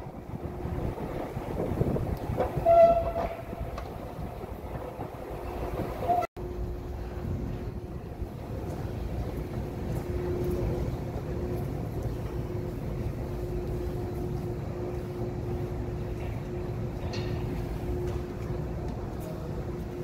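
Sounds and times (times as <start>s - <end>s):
constant hum: 0.0s - 20.0s
low mechanical rumble: 0.0s - 20.0s.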